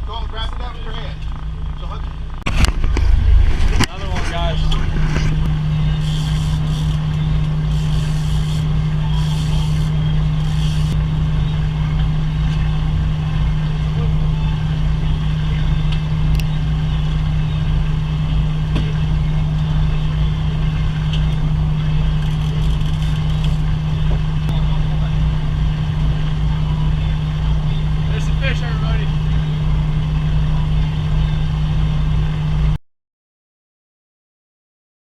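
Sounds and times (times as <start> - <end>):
boat engine humming: 0.0 - 32.8.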